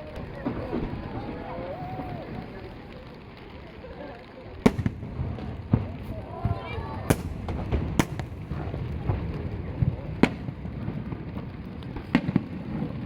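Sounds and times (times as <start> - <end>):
fireworks bursting with bangs: 0.0 - 13.0.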